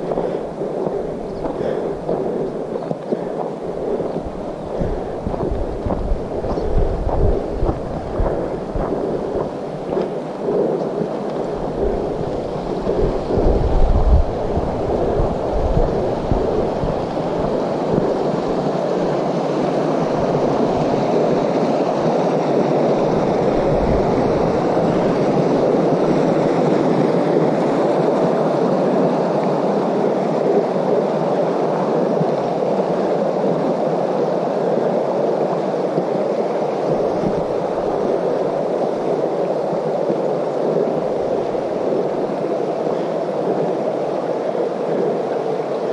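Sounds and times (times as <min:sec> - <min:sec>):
creek rushing: 0:00.0 - 0:45.9
wind buffeting microphone: 0:00.0 - 0:45.9.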